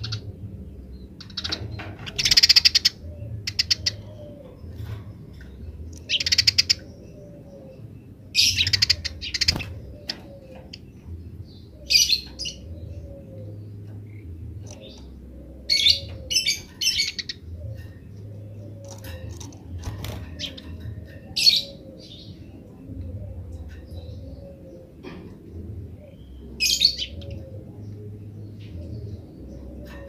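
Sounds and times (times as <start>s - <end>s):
low steady hum: 0.0s - 30.0s
sparrows chattering: 0.0s - 30.0s.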